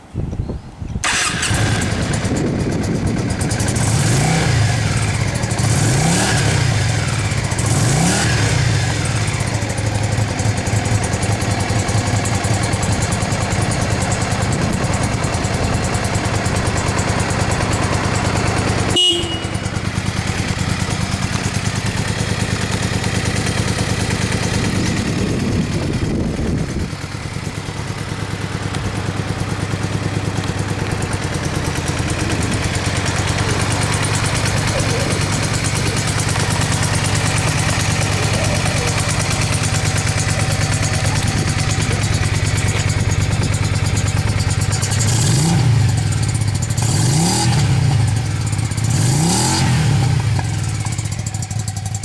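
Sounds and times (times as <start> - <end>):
motorcycle engine revving and idling: 1.0 - 52.0.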